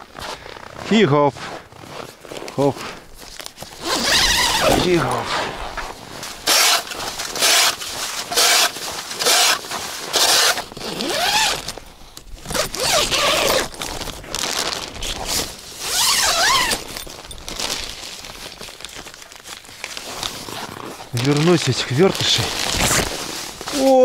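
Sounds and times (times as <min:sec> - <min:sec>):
tent zipper being pulled: 0:01.7 - 0:24.0.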